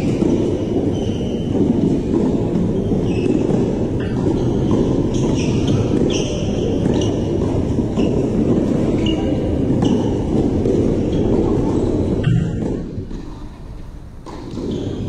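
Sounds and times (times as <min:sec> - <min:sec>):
shoes squeaking on court: 0:00.0 - 0:15.0.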